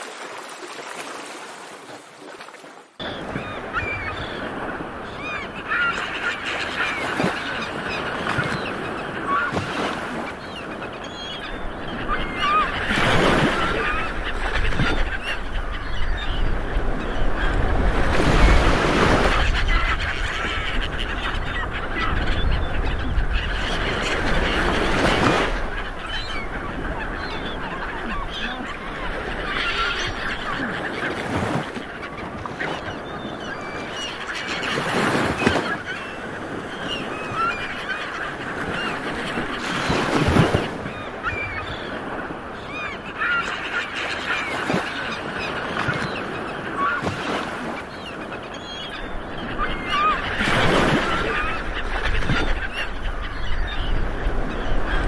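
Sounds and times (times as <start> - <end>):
birds honking: 3.0 - 55.0.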